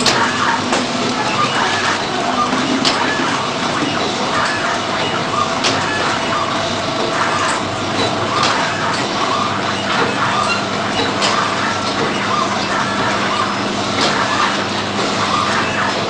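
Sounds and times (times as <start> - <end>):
packaging machine hum and clatter: 0.0 - 16.0.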